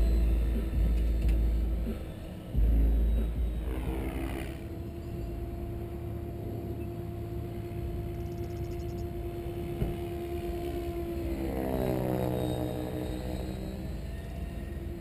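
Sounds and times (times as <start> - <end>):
rc helicopter droning: 0.0 - 15.0.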